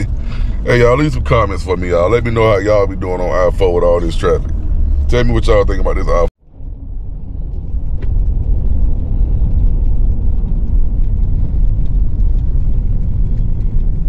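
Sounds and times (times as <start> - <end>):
car rumble in motion: 0.0 - 14.0.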